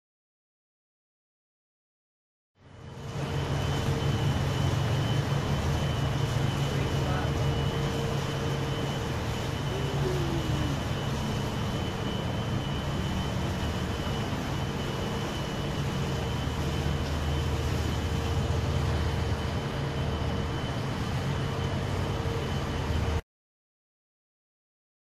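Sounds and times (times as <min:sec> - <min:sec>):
faint hum: 0:02.6 - 0:23.2
ship engine drone: 0:02.6 - 0:23.2.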